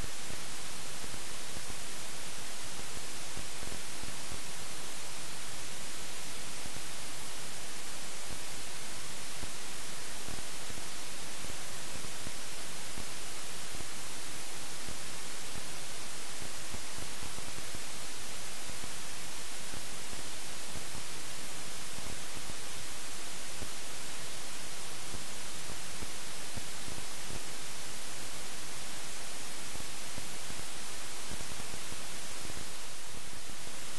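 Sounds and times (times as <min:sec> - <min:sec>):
electronic hiss and static: 0:00.0 - 0:33.9.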